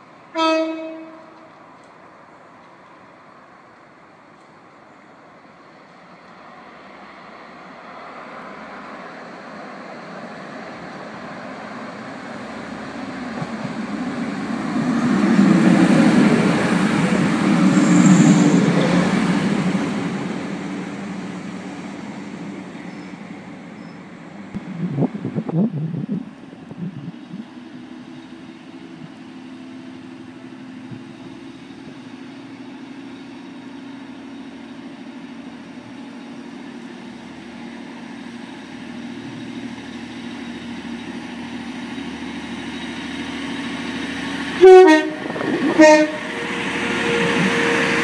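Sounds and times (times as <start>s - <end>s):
train passing: 0.0s - 48.0s.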